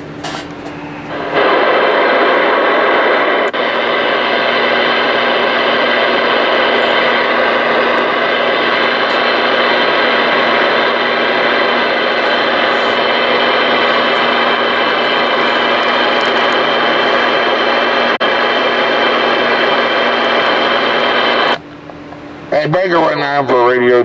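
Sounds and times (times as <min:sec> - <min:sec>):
radio static hiss: 0:01.1 - 0:21.6.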